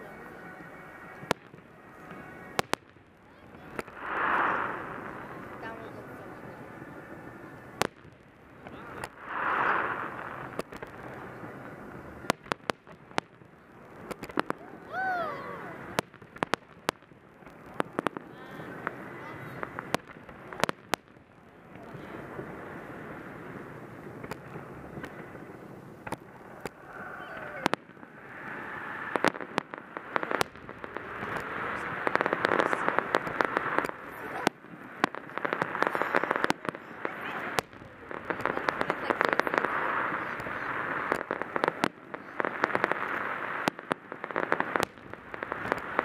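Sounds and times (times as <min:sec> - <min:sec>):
fireworks bursting: 0:00.0 - 0:46.0
steady background noise: 0:00.0 - 0:46.0.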